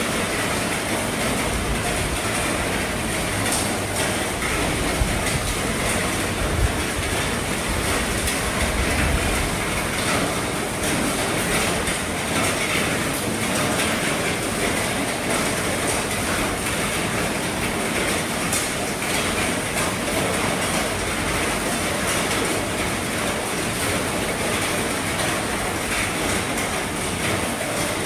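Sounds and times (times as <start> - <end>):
heavy rain on a roof: 0.0 - 28.0.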